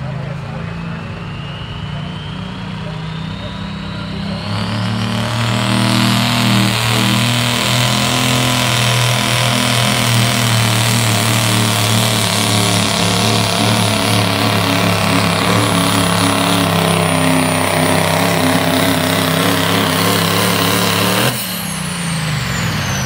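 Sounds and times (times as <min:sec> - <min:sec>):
diesel engine at full throttle: 0:00.0 - 0:23.0
turbo whistle: 0:00.3 - 0:23.0.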